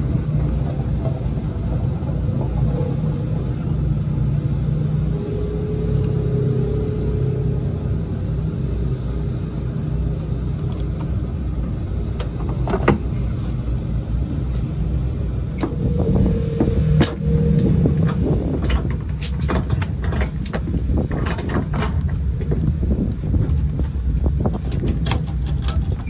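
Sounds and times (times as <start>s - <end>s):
low rumble with faint hum: 0.0s - 26.0s.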